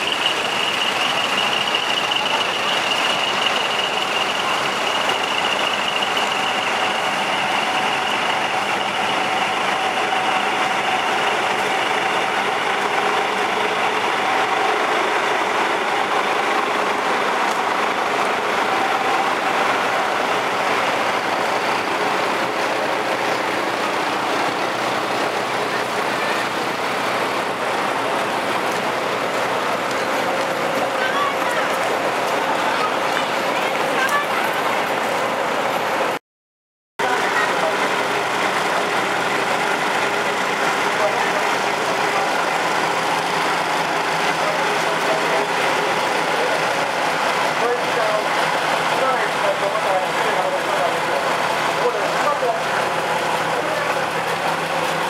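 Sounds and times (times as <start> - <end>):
diesel trucks idling: 0.0 - 36.2, 37.0 - 55.0.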